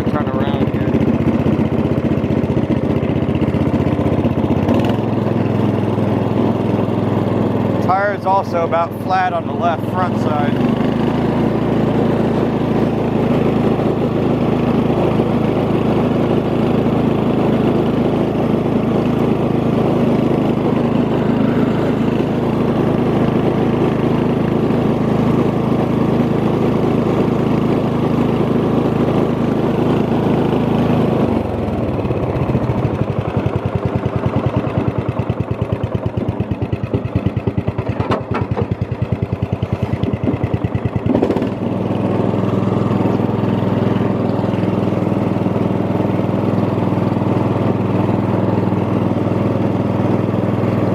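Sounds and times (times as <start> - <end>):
riding lawn mower engine running: 0.0 - 50.9.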